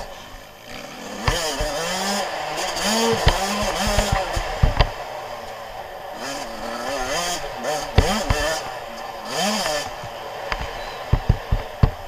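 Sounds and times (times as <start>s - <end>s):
motocross engine revving: 0.0s - 12.0s.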